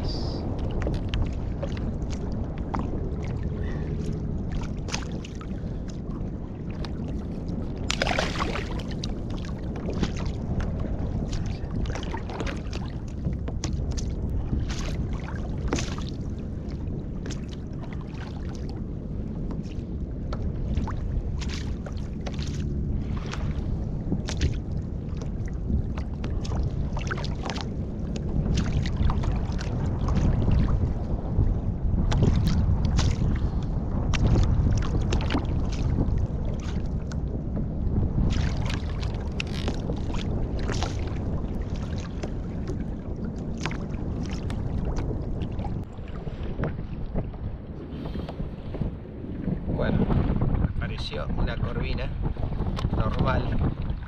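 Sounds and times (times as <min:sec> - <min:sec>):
water splashing: 0:00.0 - 0:18.8, 0:19.4 - 0:31.0, 0:32.1 - 0:37.2, 0:38.2 - 0:47.4
low rush of wind and water: 0:00.0 - 0:54.0
water slapping kayak hull: 0:00.0 - 0:54.0.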